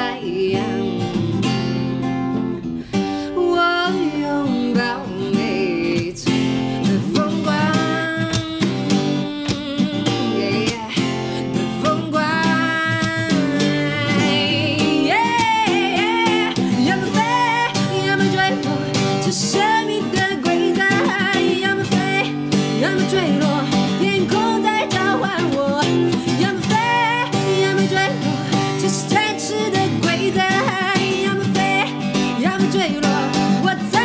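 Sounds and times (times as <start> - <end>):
acoustic guitar: 0.0 - 34.0
woman singing: 0.0 - 34.0.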